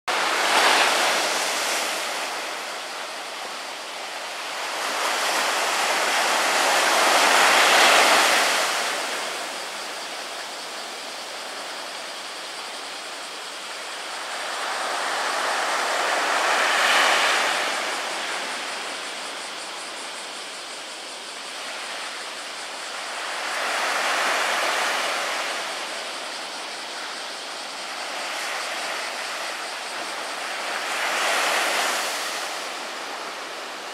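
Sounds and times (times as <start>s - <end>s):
small waves breaking on sand: 0.1s - 33.9s.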